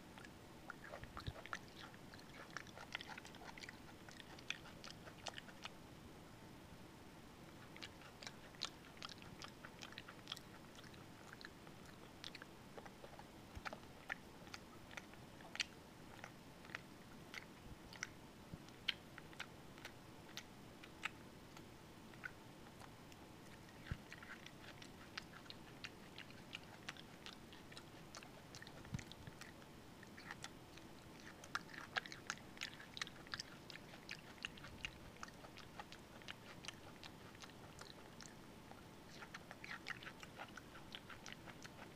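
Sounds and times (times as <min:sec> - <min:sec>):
monkey chewing wetly: 0:00.2 - 0:05.8, 0:07.6 - 0:41.9.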